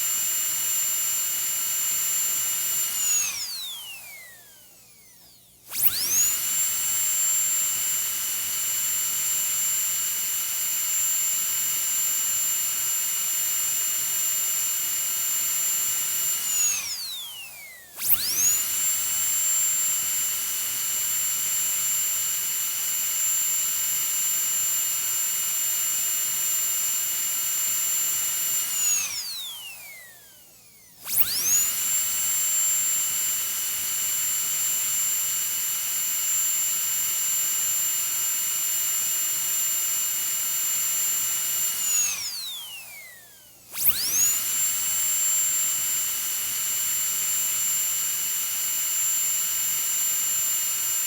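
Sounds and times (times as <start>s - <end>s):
dental drill whining: 0.0s - 51.0s.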